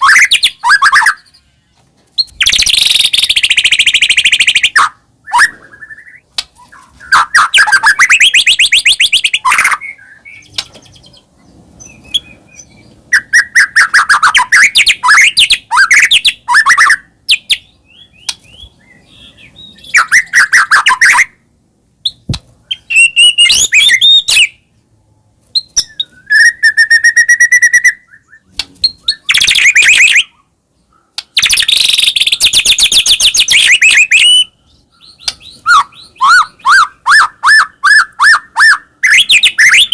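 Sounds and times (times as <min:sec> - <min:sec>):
songbird trills and whistles: 0:00.0 - 0:01.6, 0:02.2 - 0:21.4, 0:22.0 - 0:24.7, 0:25.6 - 0:39.9.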